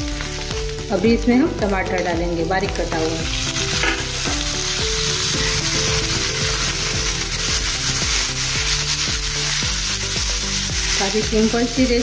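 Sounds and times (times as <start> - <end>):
background music: 0.0 - 12.0
vegetables sizzling in a pan: 0.0 - 12.0.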